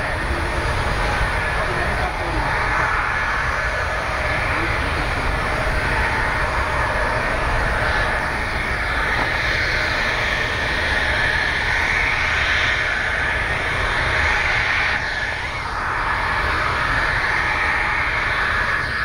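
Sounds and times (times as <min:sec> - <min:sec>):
high engine whine: 0:00.0 - 0:19.0
jet engines idling: 0:00.0 - 0:19.0.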